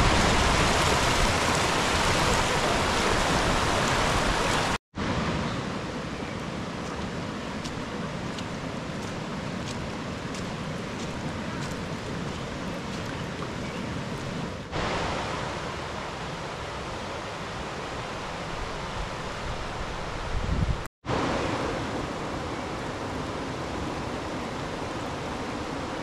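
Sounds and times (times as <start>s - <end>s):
floodwater rushing: 0.0s - 20.3s, 21.1s - 26.0s.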